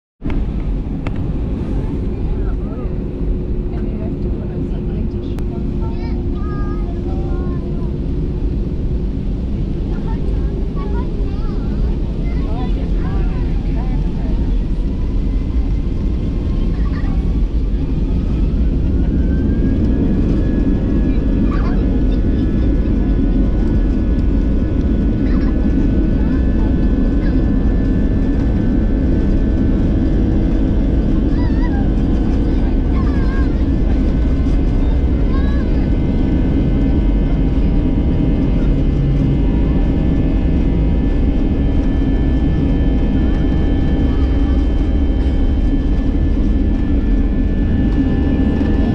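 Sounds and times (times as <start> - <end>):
jet engines rumbling and whining: 0.2 - 48.9.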